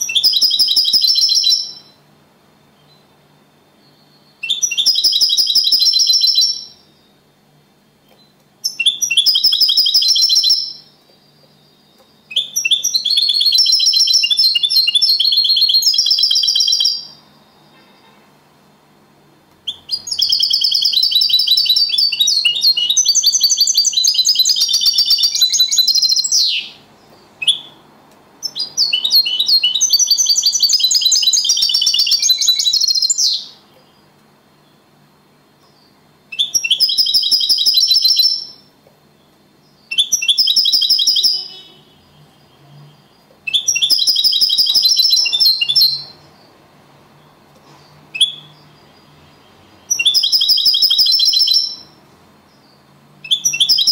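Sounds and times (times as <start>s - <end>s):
goldfinch singing twittering song: 0.0s - 2.0s, 3.8s - 7.1s, 8.0s - 17.2s, 19.6s - 27.8s, 28.4s - 34.1s, 35.7s - 46.5s, 48.2s - 53.9s.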